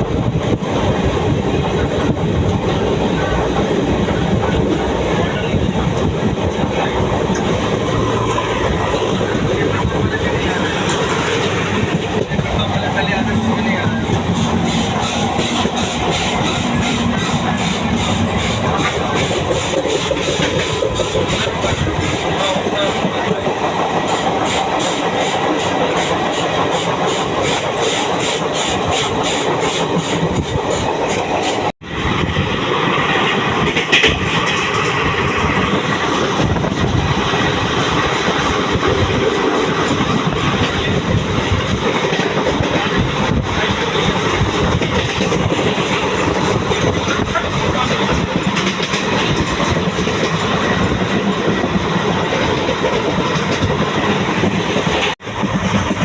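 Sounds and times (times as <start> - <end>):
train wheels clattering over rail joints: 0.0 - 56.0.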